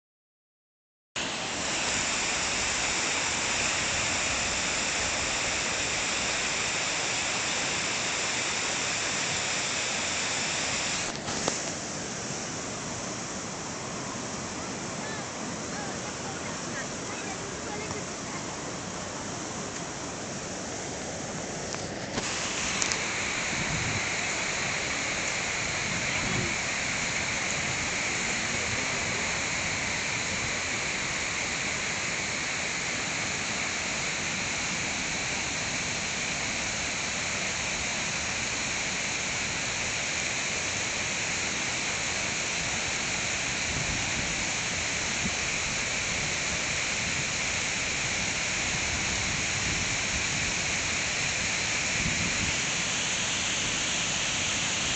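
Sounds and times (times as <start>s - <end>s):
stream rushing over rocks: 1.2s - 54.9s.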